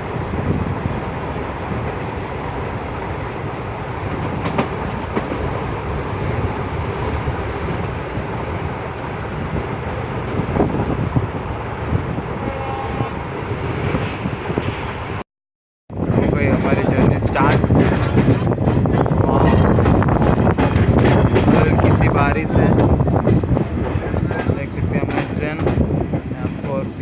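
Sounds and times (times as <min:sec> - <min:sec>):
train rumbling on rails: 0:00.0 - 0:15.2, 0:15.9 - 0:27.0.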